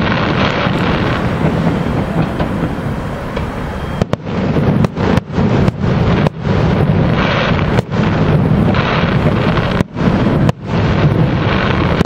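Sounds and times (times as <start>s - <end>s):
firework shells bursting: 0.0s - 12.0s
low rumble: 0.0s - 12.0s.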